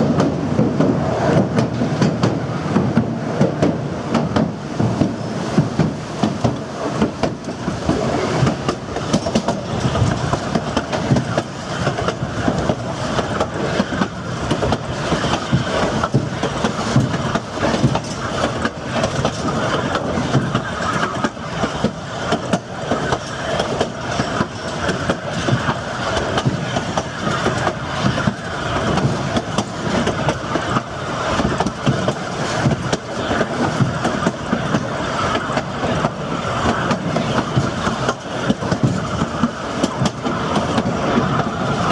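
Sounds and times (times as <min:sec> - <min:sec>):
train cars rumbling: 0:00.0 - 0:41.9
wheels clicking over rail joints: 0:00.0 - 0:41.9.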